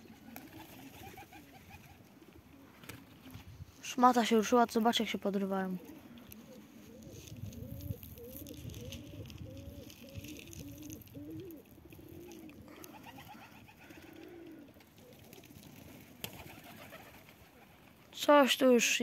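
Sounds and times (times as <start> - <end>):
pigeons cooing: 0.0 - 3.7, 5.4 - 18.1.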